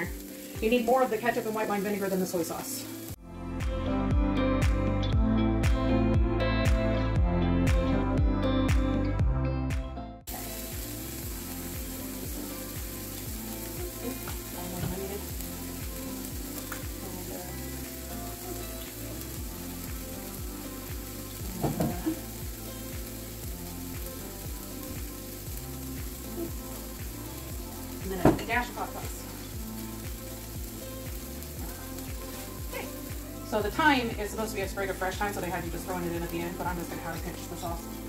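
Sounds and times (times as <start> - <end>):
meatballs sizzling in a skillet: 0.0 - 3.2, 10.3 - 38.0.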